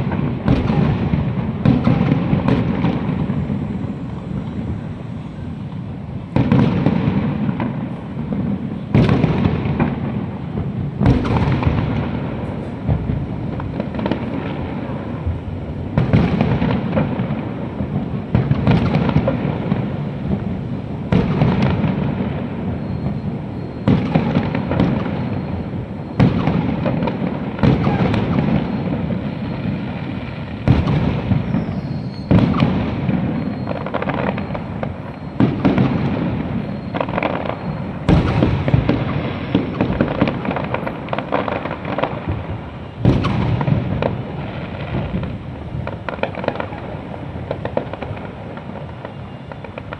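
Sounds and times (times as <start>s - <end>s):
fireworks bursting with bangs: 0.0s - 49.9s.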